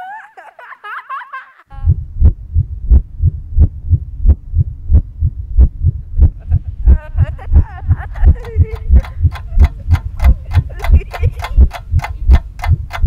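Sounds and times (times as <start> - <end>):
deep fast heartbeat: 1.7 - 13.0.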